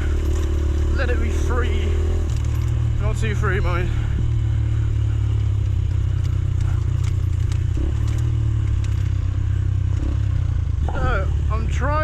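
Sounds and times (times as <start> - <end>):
low microphone rumble: 0.0 - 11.8
dirt bike engine running: 0.0 - 12.0.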